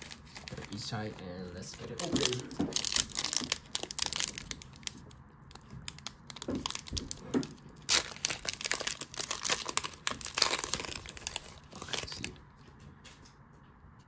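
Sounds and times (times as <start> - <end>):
wrapper crinkling and tearing: 0.0 - 12.4.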